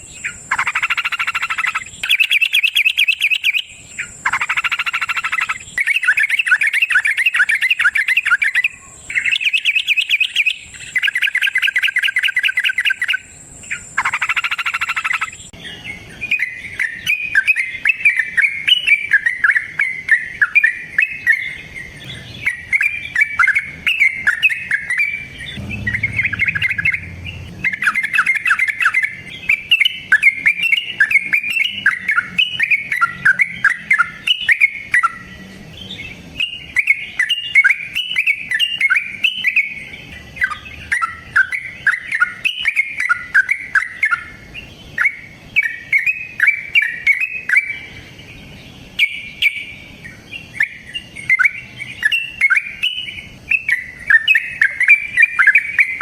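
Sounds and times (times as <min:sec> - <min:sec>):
bird singing bubbly chirps: 0:00.0 - 0:56.0.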